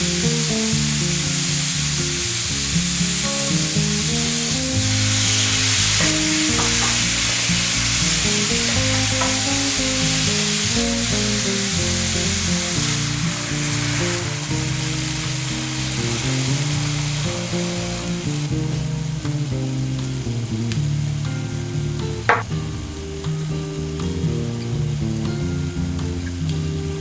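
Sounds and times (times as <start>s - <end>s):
background music: 0.0s - 27.0s
food sizzling in a frying pan: 0.0s - 27.0s.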